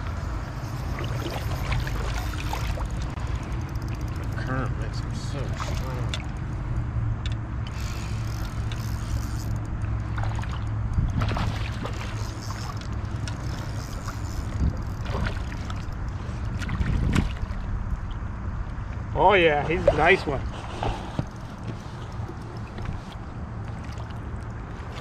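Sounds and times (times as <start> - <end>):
flowing river water: 0.0 - 6.8, 7.6 - 25.0
wind rumble on microphone: 4.8 - 25.0.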